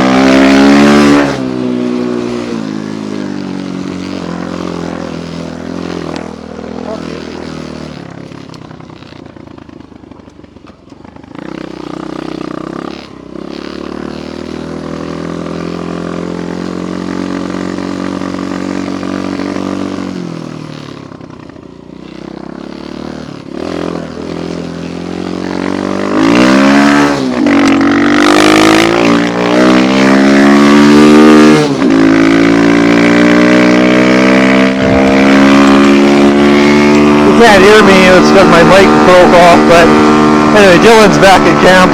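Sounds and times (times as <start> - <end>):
dirt bike engine revving: 0.0 - 9.9, 11.1 - 41.9.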